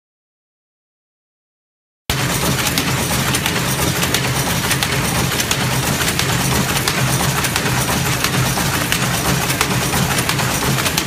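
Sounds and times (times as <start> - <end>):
sewing machine humming: 2.1 - 11.0.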